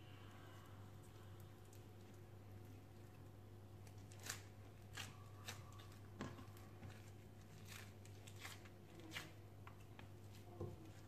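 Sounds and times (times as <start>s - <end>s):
low steady hum: 0.0s - 11.0s
hand kneading clay on countertop: 0.3s - 11.0s.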